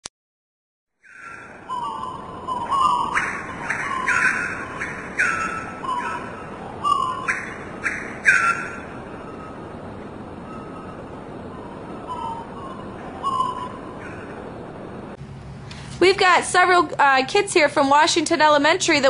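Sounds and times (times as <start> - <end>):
steady background hiss: 1.1 - 19.0.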